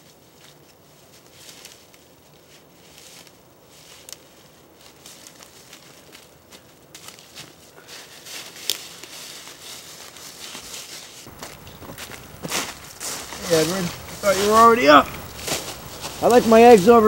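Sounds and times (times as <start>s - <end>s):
footsteps crunching dry leaves: 2.5s - 17.0s.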